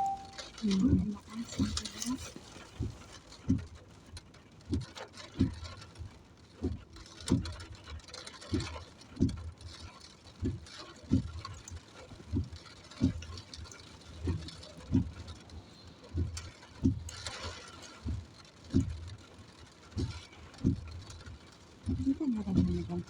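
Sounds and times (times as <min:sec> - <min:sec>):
faint steady patter: 0:00.0 - 0:23.0.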